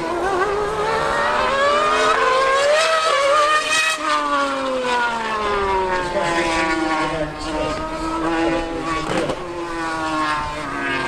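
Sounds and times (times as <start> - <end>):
racing engines accelerating past: 0.0 - 11.0.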